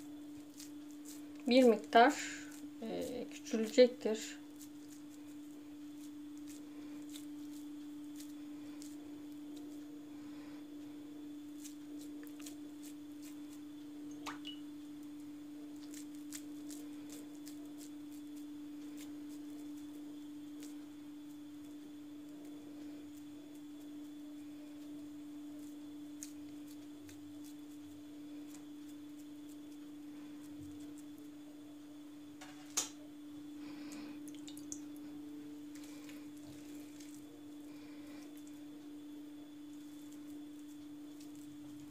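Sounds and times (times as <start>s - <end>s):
hands squelching minced meat: 0.0s - 31.4s, 33.7s - 41.9s
steady hum: 0.0s - 41.9s.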